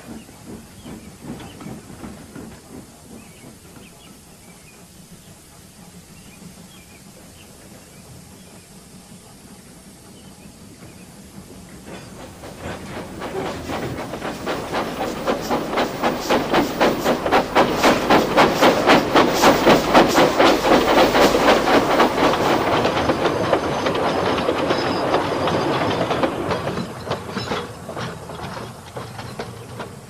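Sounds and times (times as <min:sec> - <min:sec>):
steam locomotive chugging: 0:00.0 - 0:30.0
train rumble: 0:00.0 - 0:30.0.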